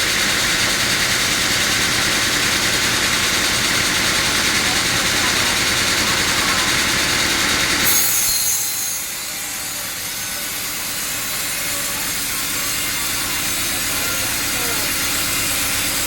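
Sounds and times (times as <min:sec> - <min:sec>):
drive engine running: 0:00.0 - 0:07.9, 0:09.5 - 0:16.0
saw cutting wood: 0:00.0 - 0:16.0.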